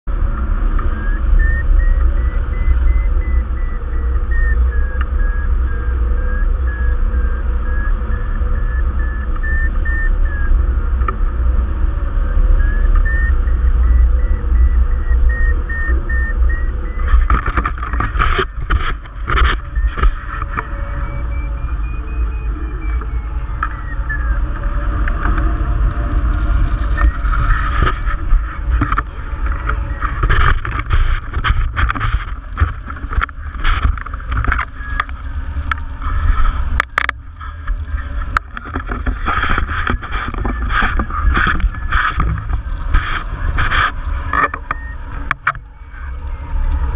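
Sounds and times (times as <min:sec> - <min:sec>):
variometer beeping: 0:00.1 - 0:46.9
wind rush on microphone: 0:00.1 - 0:46.9.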